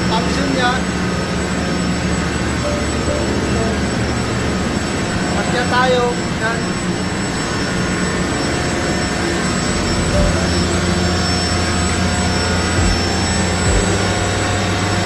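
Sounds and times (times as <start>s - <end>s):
low hum: 0.0s - 15.0s
ship engine room machinery drone: 0.0s - 15.0s.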